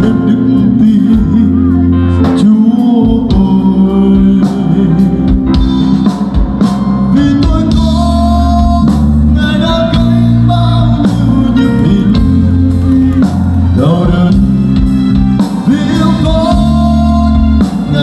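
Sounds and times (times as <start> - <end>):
man singing into microphone: 0.0 - 5.6, 7.0 - 18.0
drum kit: 0.0 - 18.0
electric guitar: 0.0 - 18.0.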